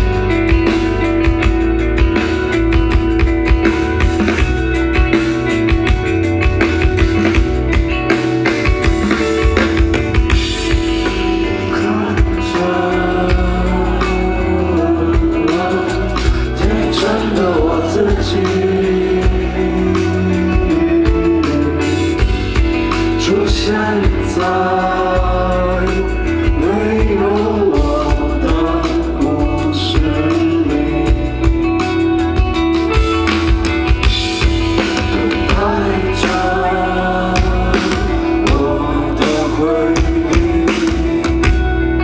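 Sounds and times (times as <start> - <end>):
live rock band playing: 0.0 - 42.0
male lead singer: 0.0 - 42.0.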